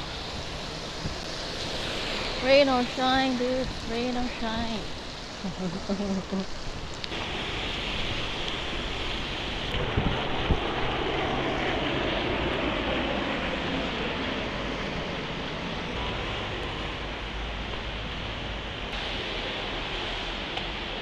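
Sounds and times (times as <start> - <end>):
wind buffeting microphone: 0.0 - 17.2
rain: 0.0 - 21.0
wet road spray: 0.0 - 21.0.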